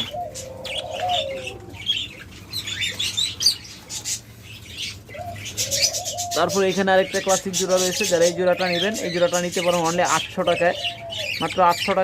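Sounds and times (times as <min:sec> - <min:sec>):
budgerigars chirping: 0:00.0 - 0:12.0
dove cooing: 0:00.0 - 0:12.0.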